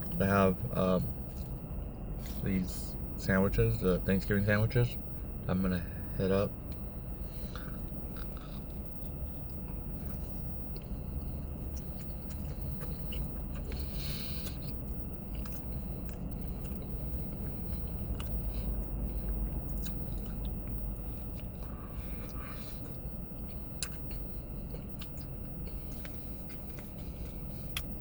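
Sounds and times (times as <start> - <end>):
low steady rumble: 0.0 - 28.0
person chewing food: 1.1 - 2.4, 6.6 - 28.0.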